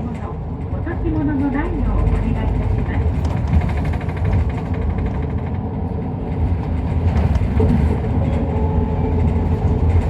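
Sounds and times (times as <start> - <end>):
bus engine drone: 0.0 - 10.0
road rumble: 0.0 - 10.0.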